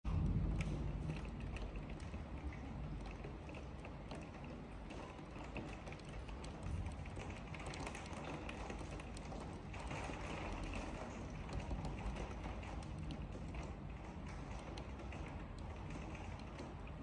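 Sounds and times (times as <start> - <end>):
rain falling: 0.1 - 17.0.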